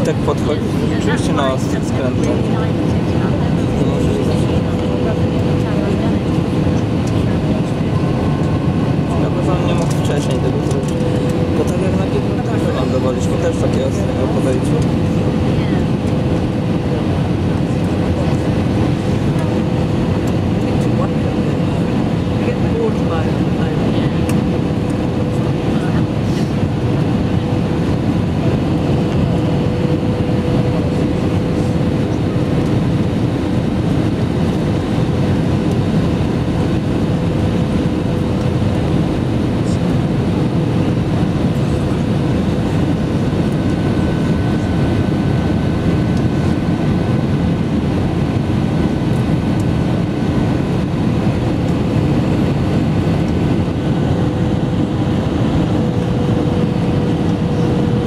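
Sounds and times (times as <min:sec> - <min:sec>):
jet engines and rushing air: 0:00.0 - 0:58.0.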